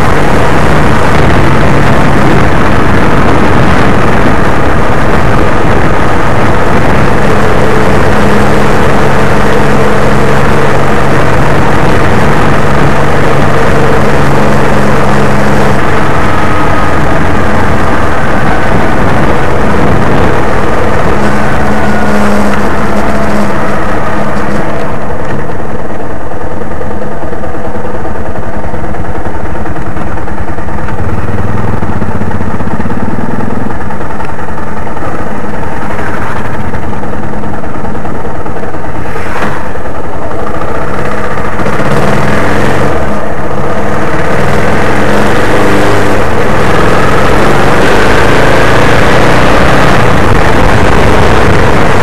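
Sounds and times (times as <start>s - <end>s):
car engine from inside cabin: 0.0s - 52.0s
road noise hiss: 0.0s - 52.0s.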